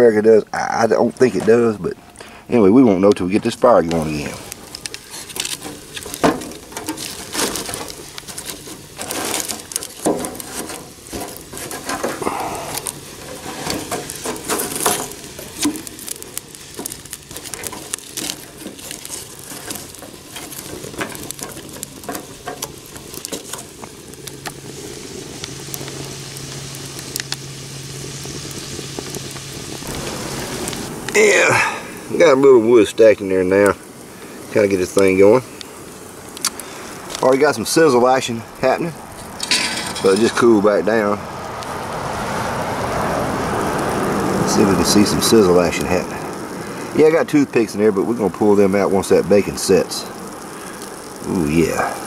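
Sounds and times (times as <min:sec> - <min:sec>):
fire crackling: 0:00.0 - 0:52.0
firewood knocking and scraping: 0:00.0 - 0:52.0.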